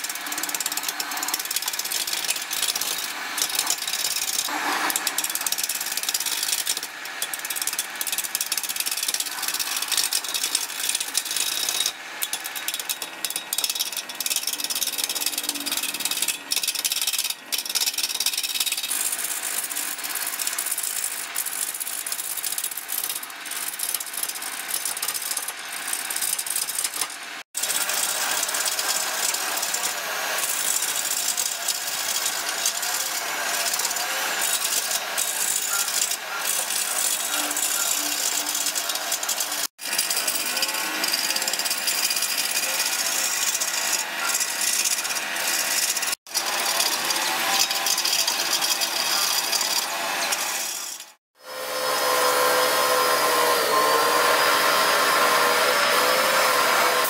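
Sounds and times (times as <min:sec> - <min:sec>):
lathe gouge scraping wood: 0:00.0 - 0:18.3, 0:27.9 - 0:57.0.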